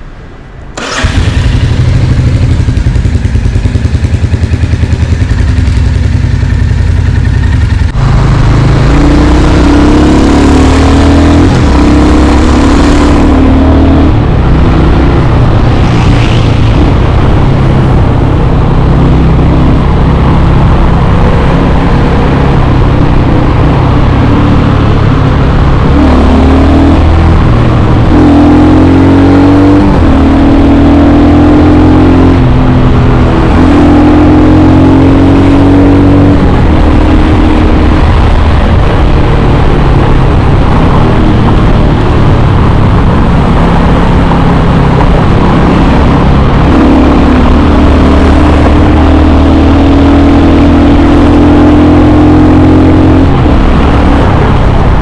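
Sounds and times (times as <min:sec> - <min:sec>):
motorcycle engine running: 0:00.8 - 0:55.0.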